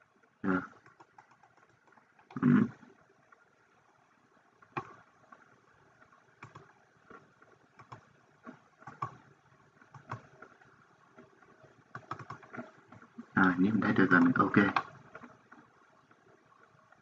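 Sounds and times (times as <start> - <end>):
low steady hiss: 0.0 - 17.0
computer mouse clicks: 0.7 - 3.4, 4.6 - 17.0.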